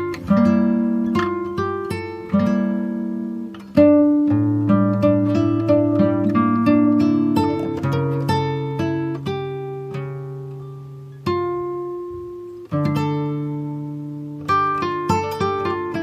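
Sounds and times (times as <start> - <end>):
plucked guitar notes: 0.0 - 16.0.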